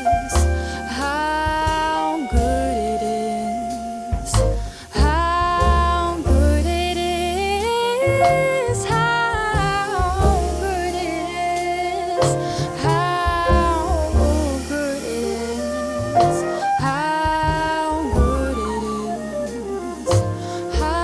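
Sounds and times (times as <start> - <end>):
jazz-soul band playing: 0.0 - 21.0.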